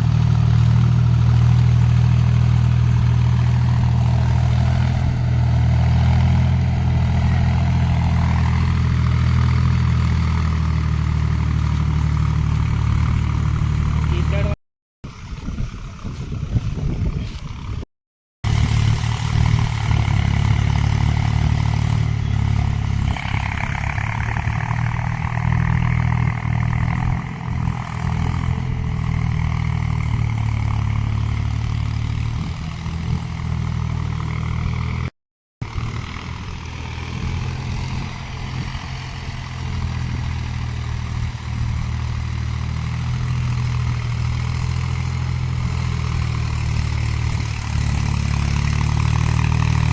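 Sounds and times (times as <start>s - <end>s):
tractor diesel engine running: 0.0s - 17.8s, 18.4s - 49.9s.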